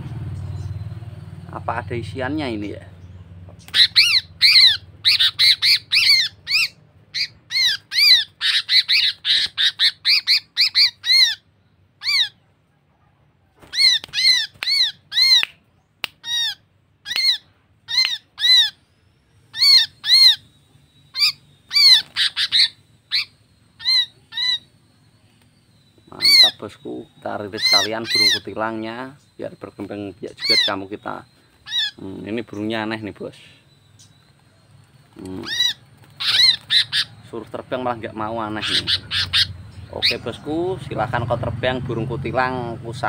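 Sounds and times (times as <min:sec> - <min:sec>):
bird giving harsh distress squawks: 0:03.6 - 0:12.5, 0:13.6 - 0:41.1.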